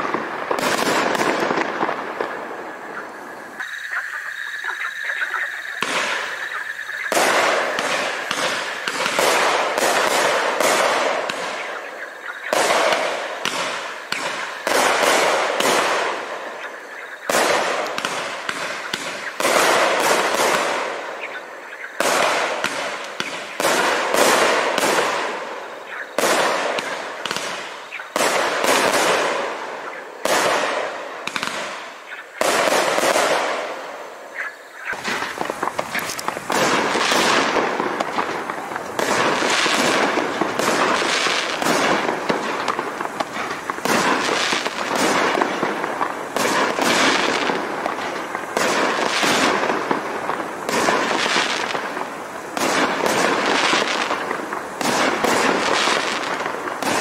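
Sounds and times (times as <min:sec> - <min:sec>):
fireworks cake firing shots: 0:00.0 - 0:03.0, 0:05.8 - 0:57.0
fireworks bursting and crackling: 0:00.0 - 0:57.0.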